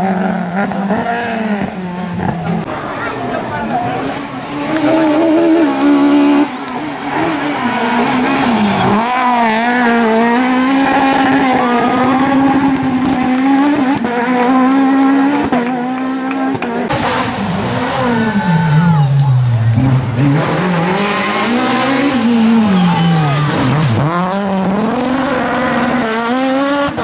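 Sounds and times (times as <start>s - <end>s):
high-revving rally car engine: 0.0s - 27.0s.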